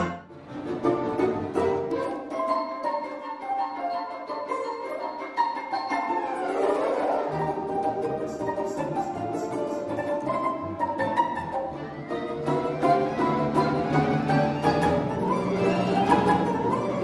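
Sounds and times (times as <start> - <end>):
folk instrument orchestra playing: 0.0 - 17.0.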